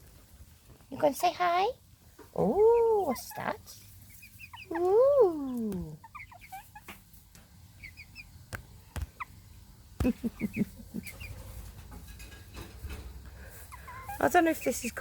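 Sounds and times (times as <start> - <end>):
chicks peeping: 1.4 - 15.0.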